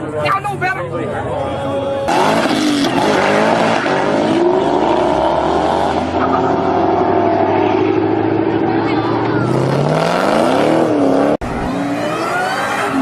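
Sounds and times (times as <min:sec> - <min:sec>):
sports car engine accelerating: 0:02.0 - 0:13.0.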